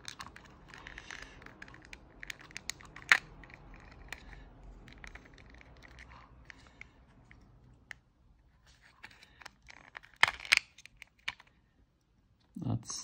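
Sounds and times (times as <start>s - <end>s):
plastic clicks and scratching: 0.0s - 11.6s.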